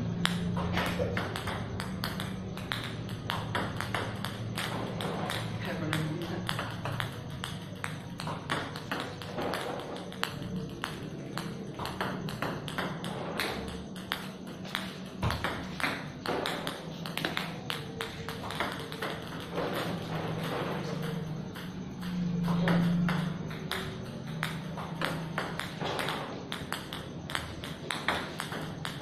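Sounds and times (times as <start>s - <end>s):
table tennis ball clicking: 0.1s - 29.0s.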